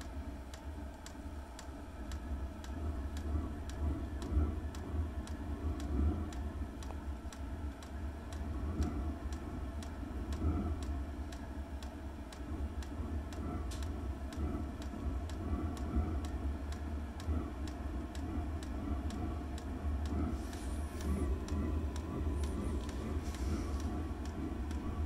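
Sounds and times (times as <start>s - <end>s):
heater fan and burner hum: 0.0s - 25.0s.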